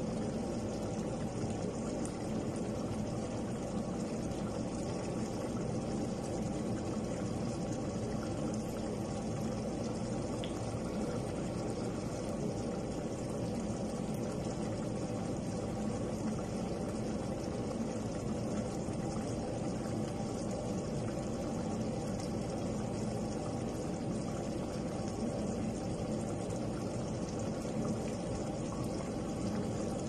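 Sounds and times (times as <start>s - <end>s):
thick sauce bubbling: 0.0s - 30.0s.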